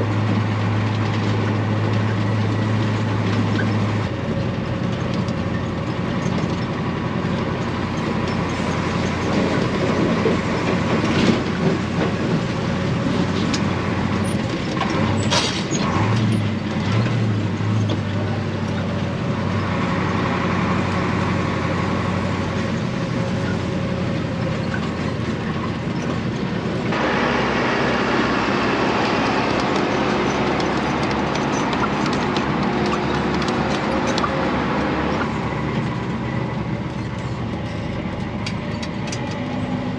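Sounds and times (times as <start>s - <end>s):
rattles and ticks in cab: 0.0s - 39.9s
truck diesel engine running: 0.0s - 39.9s.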